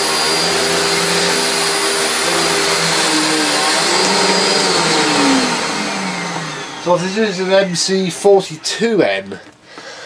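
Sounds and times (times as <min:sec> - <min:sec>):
vacuum cleaner running: 0:00.0 - 0:08.3.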